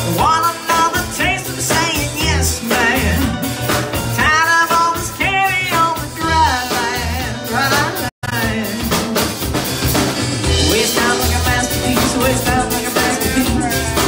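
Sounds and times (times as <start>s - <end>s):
person singing: 0.0s - 9.4s, 10.5s - 14.0s
drum kit: 0.0s - 14.0s.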